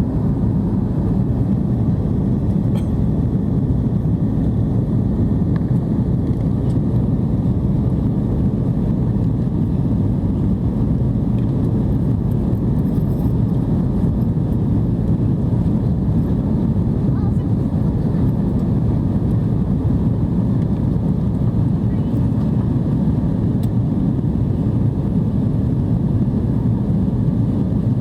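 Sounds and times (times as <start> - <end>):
airliner engines rumbling: 0.0 - 28.0.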